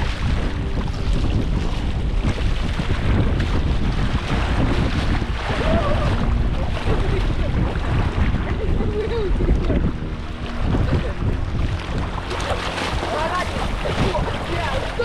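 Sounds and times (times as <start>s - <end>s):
sea surf on rocks: 0.0s - 15.0s
wind buffeting microphone: 0.0s - 15.0s.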